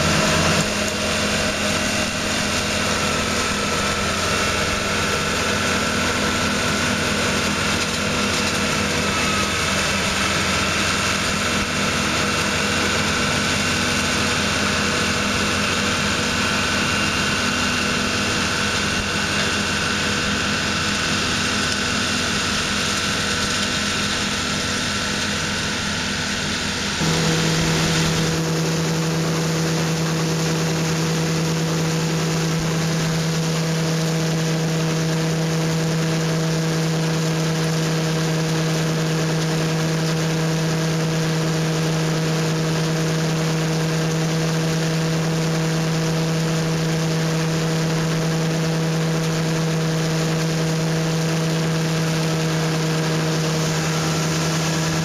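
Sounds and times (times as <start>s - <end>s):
harvester engine and machinery: 0.0s - 55.0s.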